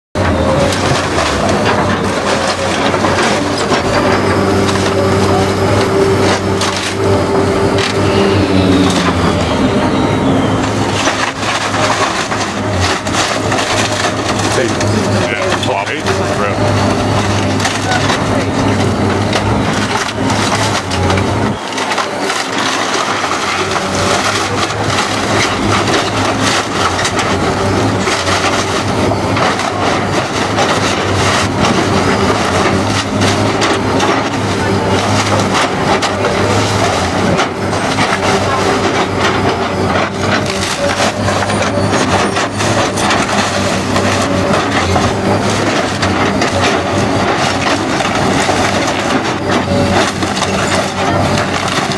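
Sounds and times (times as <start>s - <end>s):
timber cracking and splintering: 0.2s - 9.4s, 10.6s - 51.9s
excavator diesel engine drone: 0.2s - 51.9s.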